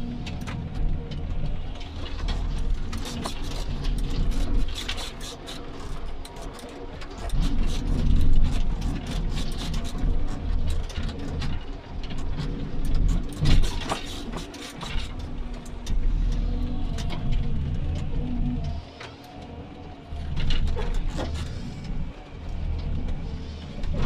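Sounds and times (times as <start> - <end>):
harvester engine and hydraulics droning: 0.0 - 24.0.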